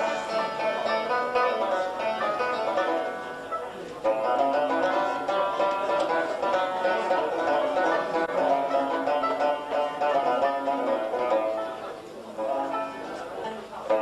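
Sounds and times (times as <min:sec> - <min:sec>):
plucked string instrument: 0:00.0 - 0:14.0.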